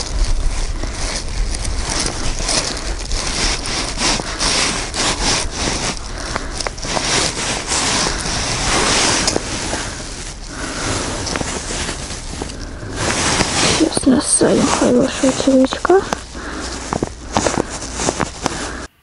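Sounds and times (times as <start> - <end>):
low rumble: 0.0 - 18.9
plastic bag and sleeves rustling: 0.0 - 19.0.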